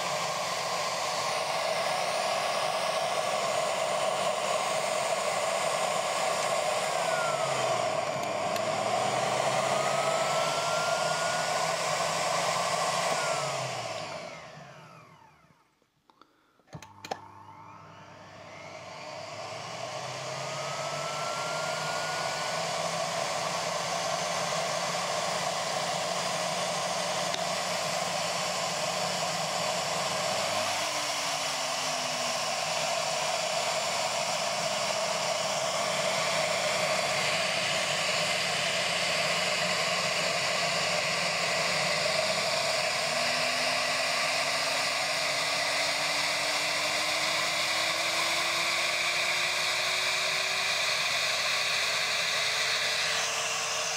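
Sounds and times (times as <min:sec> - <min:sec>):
vacuum cleaner motor whining: 0:00.0 - 0:53.9.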